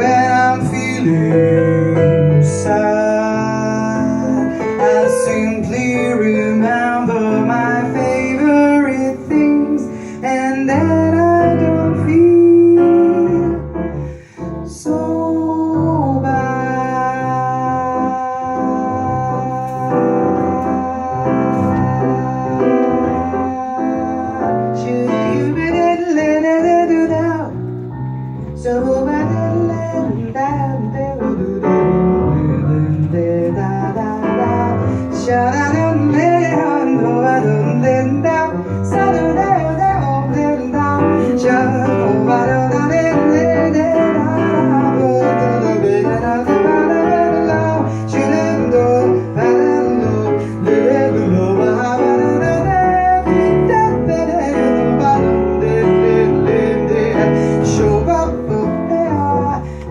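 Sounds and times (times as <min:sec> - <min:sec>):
person singing: 0:00.0 - 0:27.7, 0:28.4 - 0:59.9
piano: 0:00.0 - 0:59.9.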